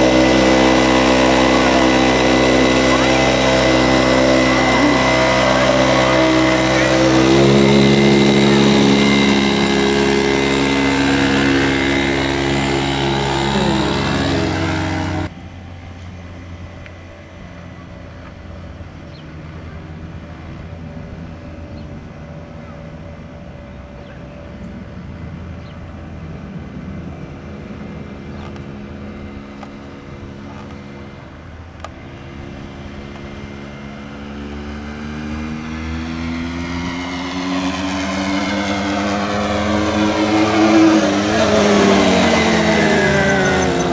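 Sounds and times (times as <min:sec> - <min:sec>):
mini motorcycle engine running: 0:00.0 - 0:43.9.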